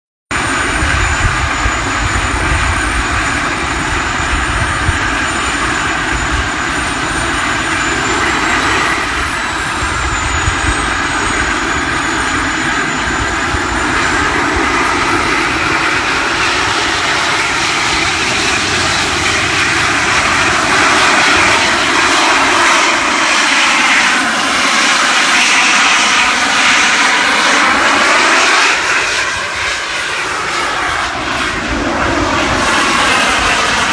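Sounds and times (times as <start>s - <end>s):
jet turbine engines roaring: 0.3s - 33.9s.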